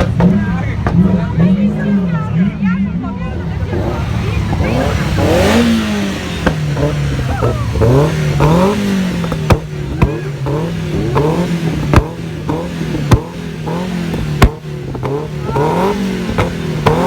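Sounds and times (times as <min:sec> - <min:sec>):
sports car engine idling: 0:00.0 - 0:17.0.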